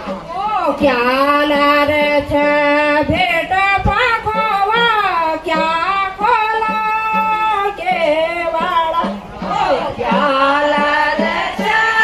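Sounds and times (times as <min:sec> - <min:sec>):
women singing folk song: 0:00.3 - 0:12.0.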